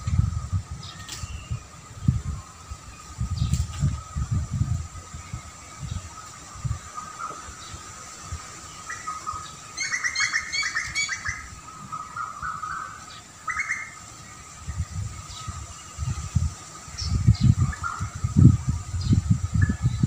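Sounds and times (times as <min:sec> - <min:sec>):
low gusty rumble: 0:00.0 - 0:09.7, 0:10.8 - 0:20.0
songbird chirping: 0:00.0 - 0:20.0.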